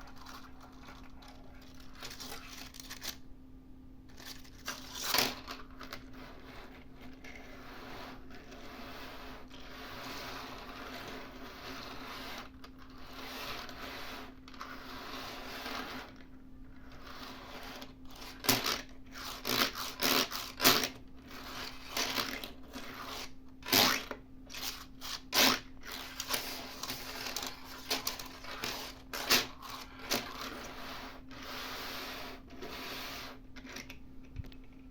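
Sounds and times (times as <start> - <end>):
plastic toy parts rubbing: 0.0 - 3.2, 4.1 - 16.3, 16.9 - 34.0.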